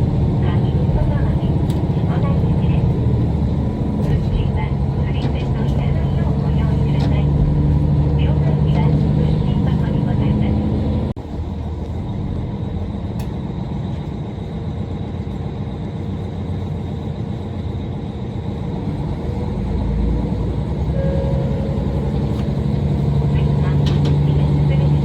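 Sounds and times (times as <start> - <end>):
diesel railcar rumbling: 0.0 - 25.0.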